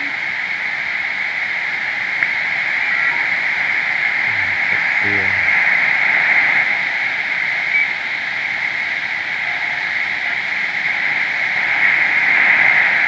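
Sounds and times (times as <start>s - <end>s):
radio static hiss: 0.0s - 0.3s, 1.4s - 13.0s.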